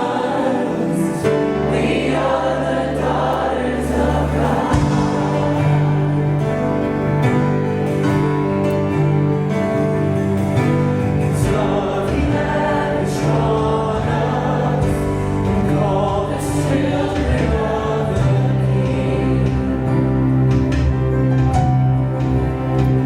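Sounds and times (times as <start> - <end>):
choir singing worship song: 0.0 - 23.0
instrumental accompaniment: 0.0 - 23.0.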